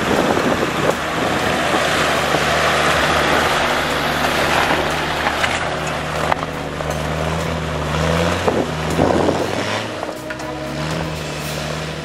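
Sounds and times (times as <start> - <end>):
off-road vehicle engine running: 0.0 - 12.0
tyre and wind noise: 0.0 - 12.0.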